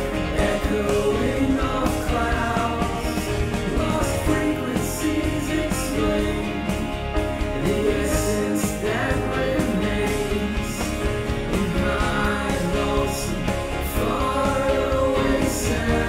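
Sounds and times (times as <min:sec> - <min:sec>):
sustained tones music: 0:00.0 - 0:16.0.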